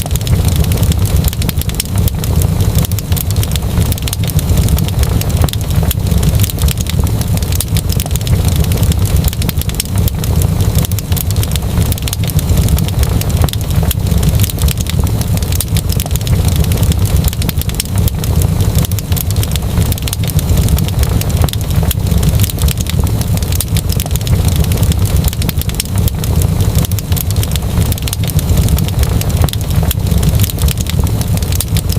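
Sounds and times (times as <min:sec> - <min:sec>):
fireplace fire crackling: 0:00.0 - 0:31.9
low rumble of flames: 0:00.0 - 0:31.9
sharp pops and snaps of fire: 0:00.0 - 0:31.9.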